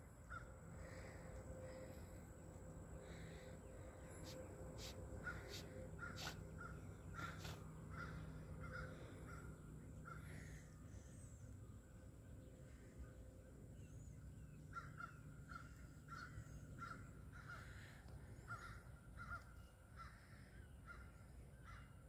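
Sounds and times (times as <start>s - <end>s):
faint low hum: 0.0s - 22.0s
faint bird calls: 0.2s - 11.7s, 12.4s - 22.0s.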